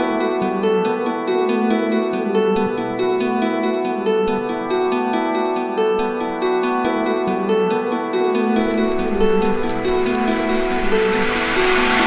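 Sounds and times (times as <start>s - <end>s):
soft plucked-string music: 0.0s - 12.0s.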